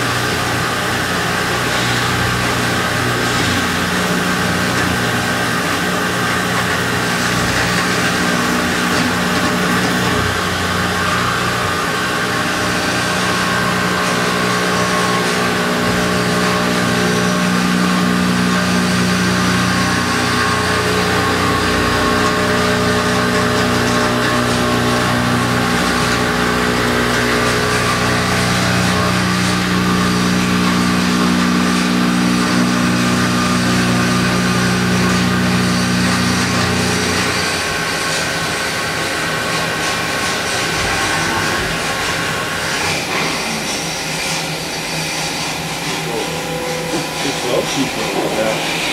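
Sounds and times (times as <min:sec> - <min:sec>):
milling machine cutting metal: 0:00.0 - 0:48.9.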